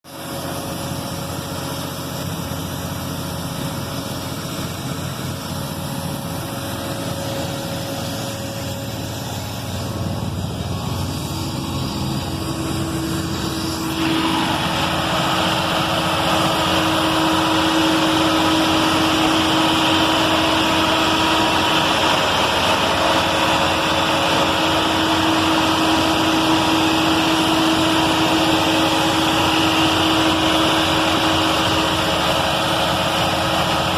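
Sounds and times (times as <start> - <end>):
diesel engine running: 0.0 - 33.9
steady whine: 0.1 - 33.9.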